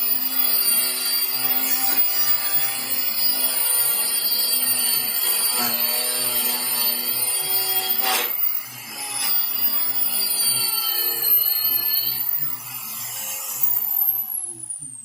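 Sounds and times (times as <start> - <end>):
electric sander on wood: 0.0 - 15.0.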